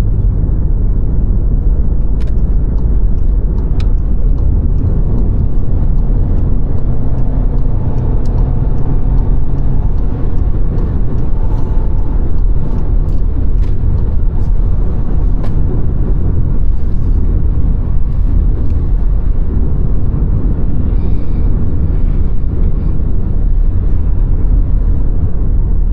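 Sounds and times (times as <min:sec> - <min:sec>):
road and tyre noise: 0:00.0 - 0:25.9.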